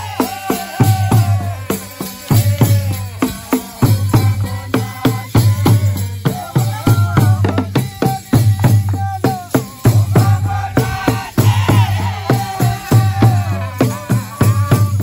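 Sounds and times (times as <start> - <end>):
drums beating a fast rhythm: 0.0 - 15.0
voices singing: 0.0 - 15.0.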